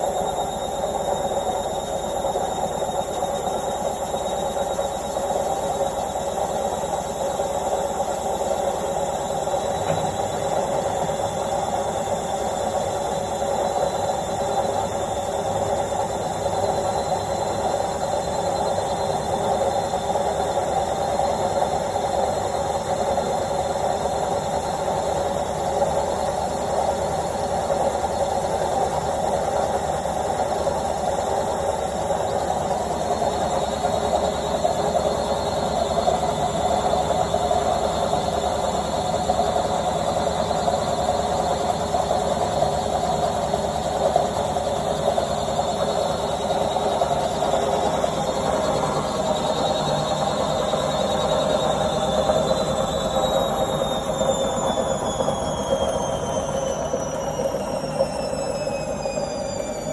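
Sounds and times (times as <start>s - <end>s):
faint high whine: 0.0s - 59.9s
washing machine spinning: 0.0s - 59.9s.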